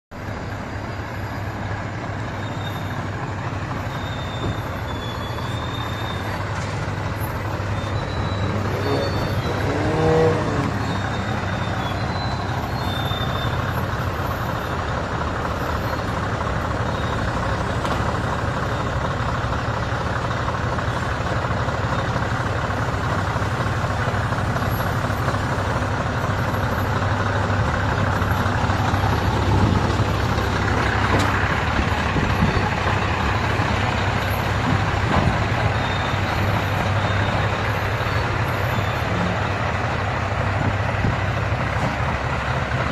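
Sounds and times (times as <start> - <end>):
truck diesel engine running: 0.1 - 42.9.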